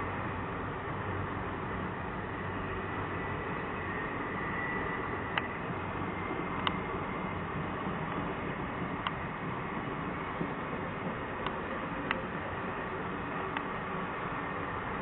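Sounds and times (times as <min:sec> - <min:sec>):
train rolling by: 0:00.0 - 0:15.0.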